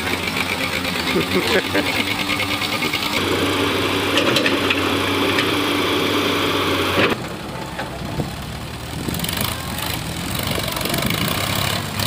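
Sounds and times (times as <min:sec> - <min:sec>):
excavator diesel engine running: 0:00.0 - 0:12.0
tractor diesel engine at low revs: 0:00.0 - 0:12.0.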